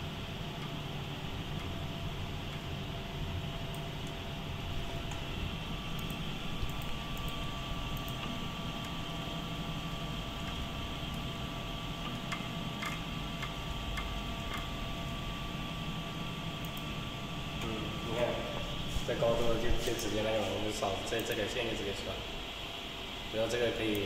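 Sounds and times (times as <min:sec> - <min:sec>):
measuring machine humming: 0:00.0 - 0:24.0.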